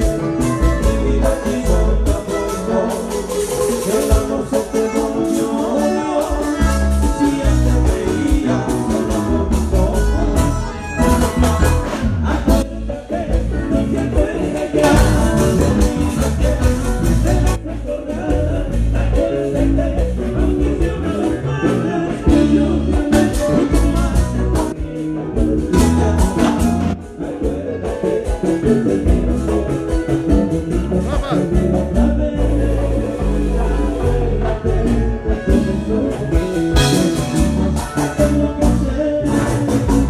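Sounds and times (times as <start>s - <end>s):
live band playing: 0.0s - 40.0s
person singing: 0.0s - 40.0s.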